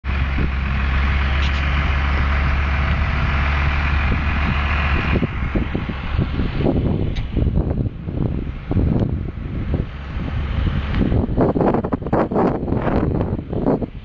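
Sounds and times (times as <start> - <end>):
tractor engines droning: 0.0 - 14.0.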